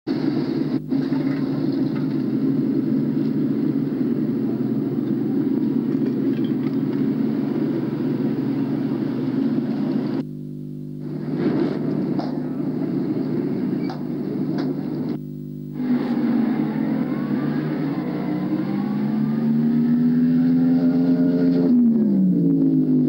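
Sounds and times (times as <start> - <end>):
vehicle engines rumbling: 0.1 - 10.2, 11.0 - 15.2, 15.8 - 23.0
low steady hum: 0.1 - 23.0.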